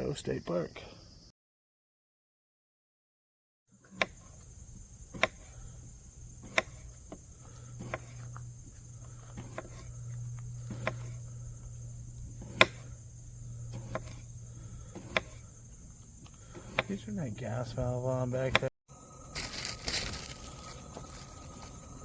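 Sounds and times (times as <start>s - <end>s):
insects chorus: 0.0s - 1.3s, 3.7s - 22.0s
low steady hum: 4.1s - 22.0s.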